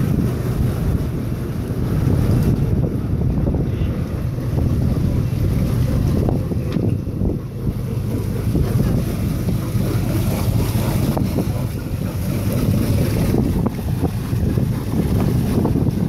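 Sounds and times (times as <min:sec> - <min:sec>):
boat engines idling: 0:00.0 - 0:16.0
wind buffeting microphone: 0:00.0 - 0:16.0.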